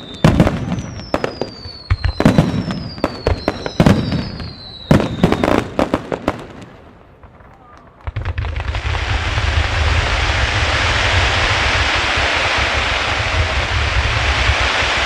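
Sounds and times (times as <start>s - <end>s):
fireworks launching and bursting: 0.0s - 15.0s.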